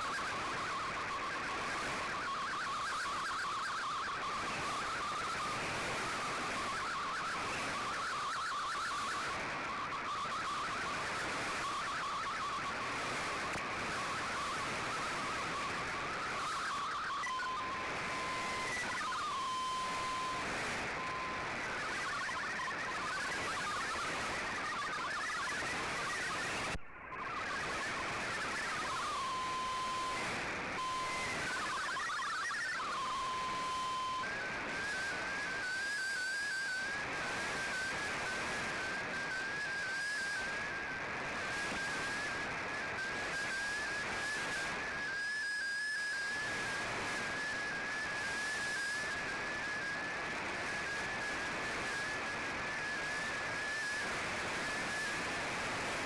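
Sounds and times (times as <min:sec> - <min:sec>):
radio static hiss: 0:00.0 - 0:56.0
steady radio tone: 0:00.0 - 0:56.0
warbling data tones: 0:00.0 - 0:56.0.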